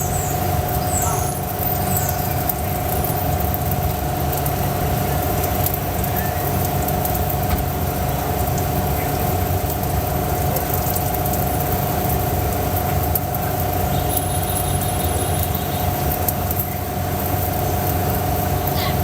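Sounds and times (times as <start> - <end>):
machine hum with high whine: 0.0 - 19.0.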